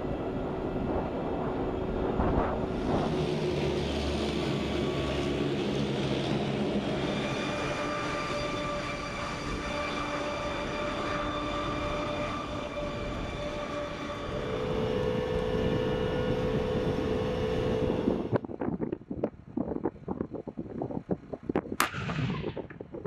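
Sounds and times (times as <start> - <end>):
tank turbine engine whine: 0.0 - 23.0.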